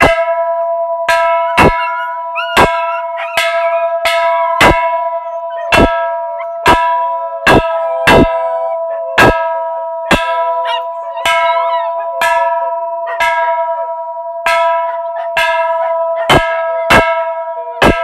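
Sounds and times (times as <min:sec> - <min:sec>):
bell ringing: 0:00.0 - 0:18.0
dog howling: 0:01.4 - 0:14.0, 0:14.6 - 0:18.0.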